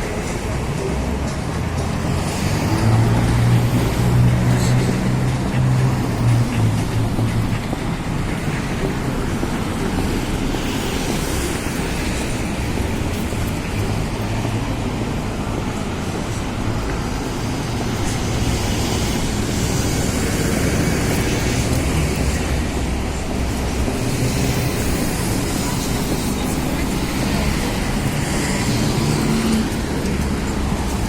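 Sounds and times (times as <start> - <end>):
cars passing on street: 0.0 - 31.0.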